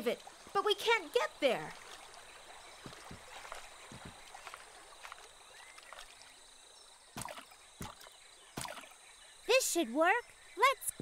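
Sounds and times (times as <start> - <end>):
water lapping: 0.0 - 9.2.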